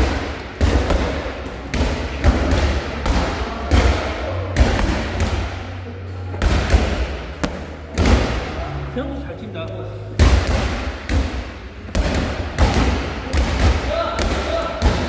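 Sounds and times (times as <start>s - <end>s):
medicine balls landing with thuds: 0.0s - 8.7s, 10.1s - 15.0s.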